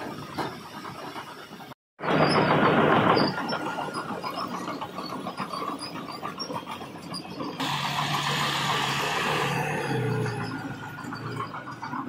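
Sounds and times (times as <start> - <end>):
heavy machinery diesel engine: 0.0 - 12.0.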